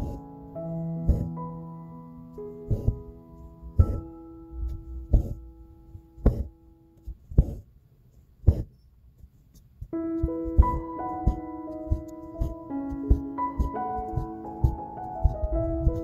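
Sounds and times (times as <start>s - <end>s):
soft piano music: 0.0s - 7.2s, 9.8s - 16.0s.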